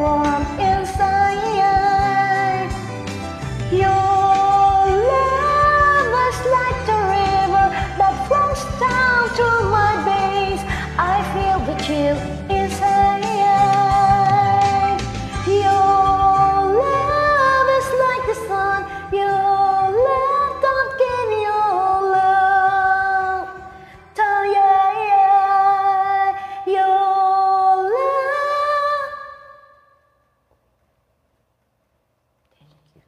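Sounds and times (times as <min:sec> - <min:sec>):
slow pop ballad backing music: 0:00.0 - 0:29.2.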